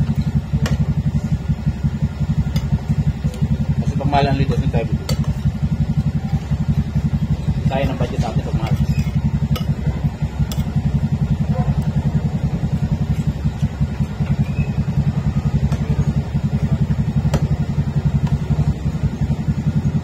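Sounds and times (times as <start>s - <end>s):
small engine idling: 0.0s - 20.0s.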